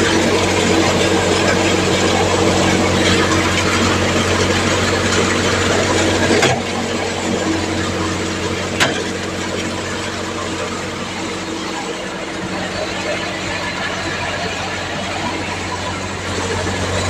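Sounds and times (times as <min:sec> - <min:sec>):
thresher rushing noise: 0:00.0 - 0:17.0
tractor diesel engine humming: 0:00.0 - 0:17.0.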